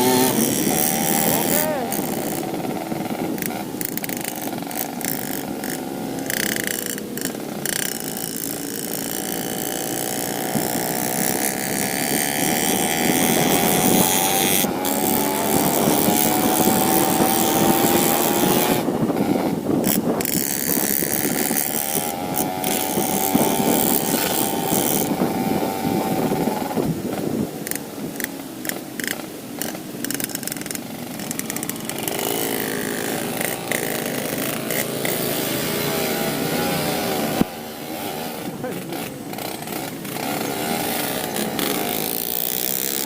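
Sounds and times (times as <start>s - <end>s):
two-stroke motorcycle engine running: 0.0s - 43.0s.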